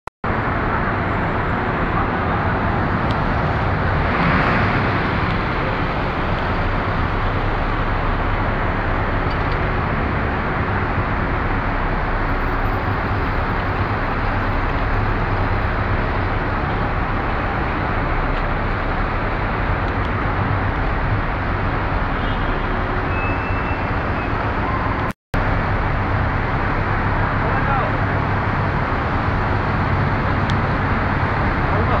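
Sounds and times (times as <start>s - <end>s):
cars and buses passing: 0.2s - 32.0s.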